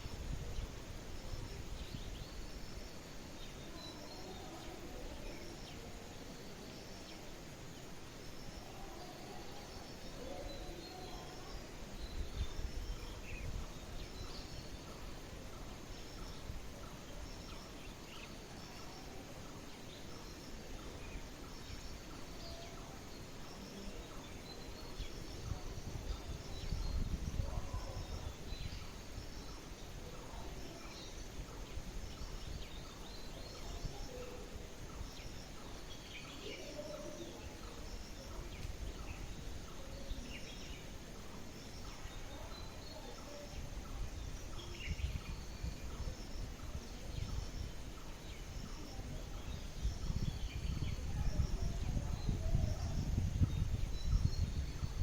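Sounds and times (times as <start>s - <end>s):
songbirds chirping: 0.0s - 55.0s
steady background hiss: 0.0s - 55.0s.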